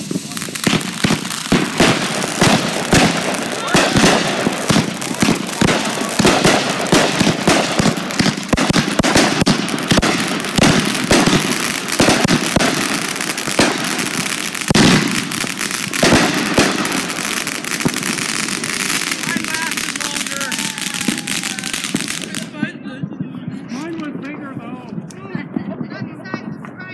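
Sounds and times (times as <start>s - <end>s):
fireworks bangs and crackling: 0.0s - 26.9s.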